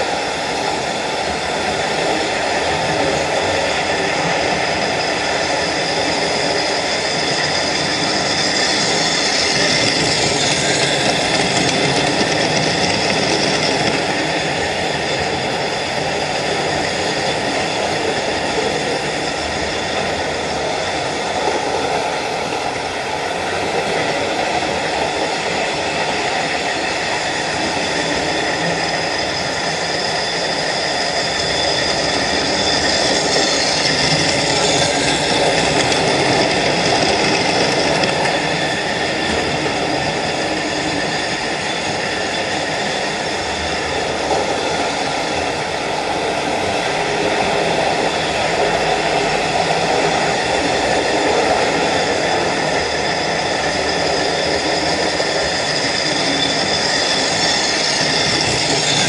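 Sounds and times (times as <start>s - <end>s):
model trains whirring: 0.0s - 59.0s
wheels rolling on track: 0.1s - 59.0s.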